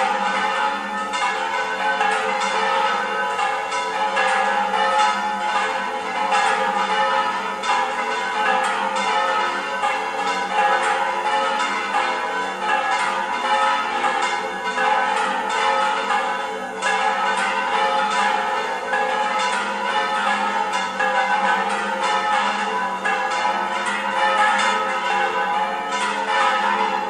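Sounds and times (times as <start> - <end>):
church bells pealing: 0.0 - 27.0.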